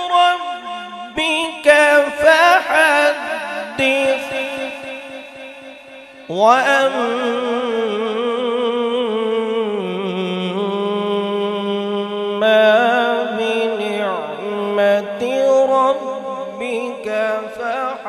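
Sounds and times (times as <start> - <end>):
man chanting recitation: 0.0 - 18.0.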